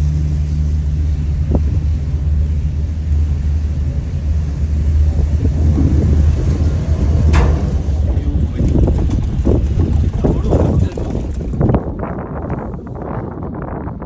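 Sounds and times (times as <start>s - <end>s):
cable car rumble: 0.0s - 14.0s.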